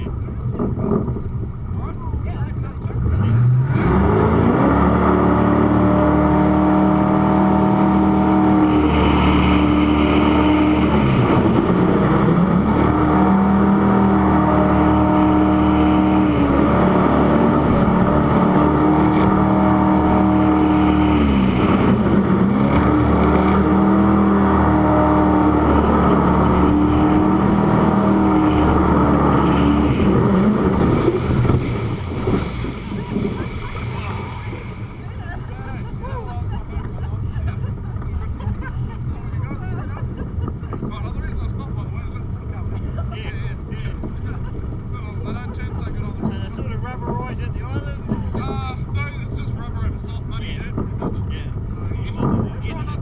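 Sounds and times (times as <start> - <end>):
jet boat engine at high revs: 0.0 - 53.0.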